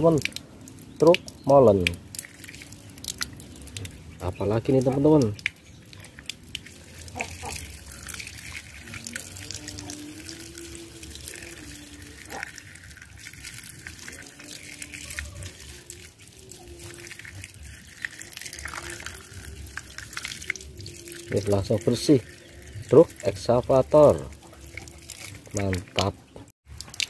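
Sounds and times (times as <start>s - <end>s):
water pouring and splashing: 0.0s - 27.0s.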